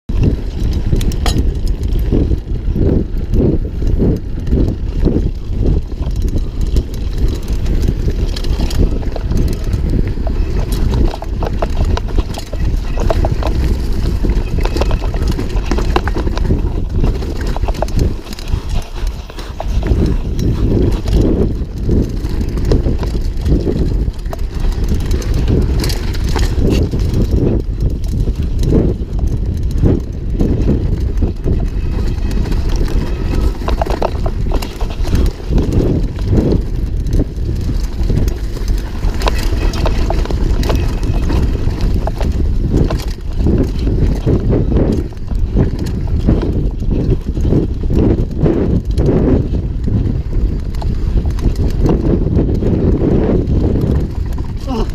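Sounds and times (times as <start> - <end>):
wind rumble on microphone: 0.0 - 54.9
mountain bike rattling and knocking: 0.1 - 54.9
tyre noise on dirt: 0.1 - 54.9.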